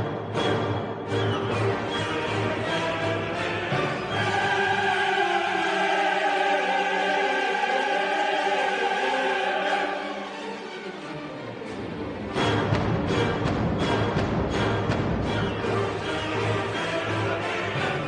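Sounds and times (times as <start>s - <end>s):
orchestral music: 0.0s - 18.0s
choir-like voices: 0.3s - 18.0s.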